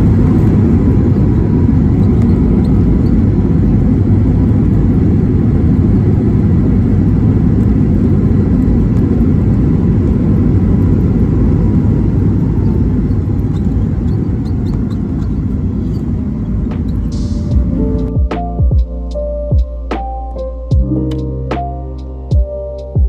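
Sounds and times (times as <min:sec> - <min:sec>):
aircraft cabin engine rumble: 0:00.0 - 0:19.3.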